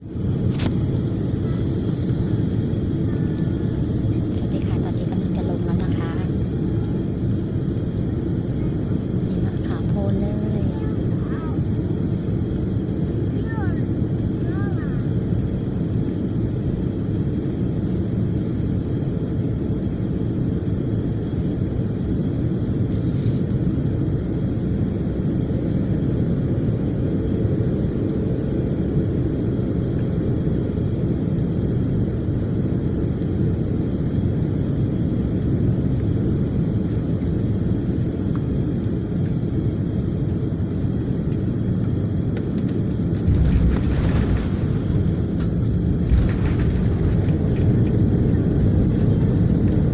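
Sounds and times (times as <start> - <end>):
airliner engines rumbling in cabin: 0.0 - 49.9.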